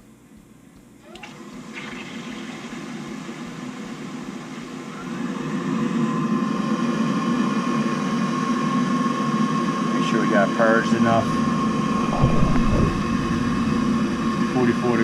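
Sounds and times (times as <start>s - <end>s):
boiler motor whining and humming: 0.0s - 15.0s.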